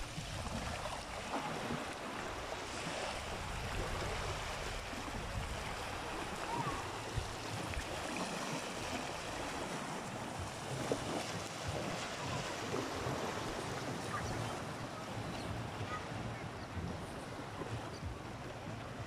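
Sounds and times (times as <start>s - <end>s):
small waves breaking on shore: 0.0s - 19.0s
wind on microphone: 0.0s - 19.0s.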